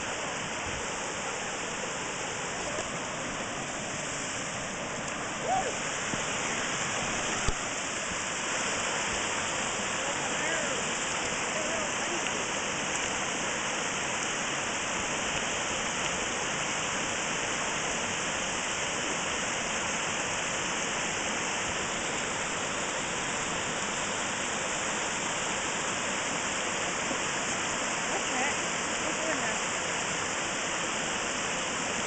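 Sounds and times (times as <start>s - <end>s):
stream rushing over stones: 0.0s - 32.0s.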